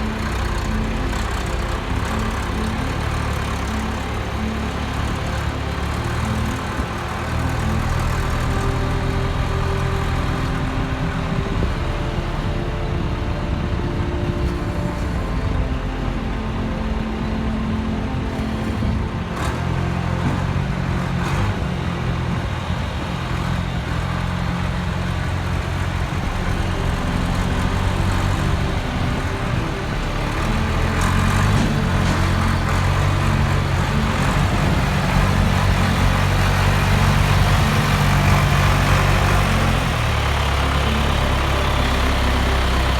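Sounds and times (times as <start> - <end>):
engine running: 0.0 - 42.9.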